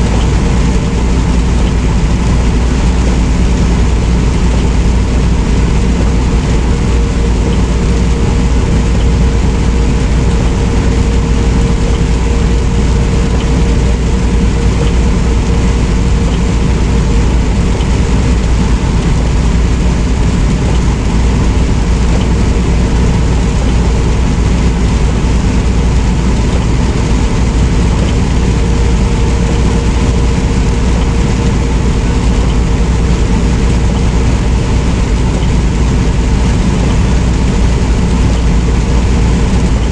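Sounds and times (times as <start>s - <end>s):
diesel engine drone: 0.0s - 39.9s
faint steady whine: 0.0s - 39.9s
road noise: 0.0s - 39.9s.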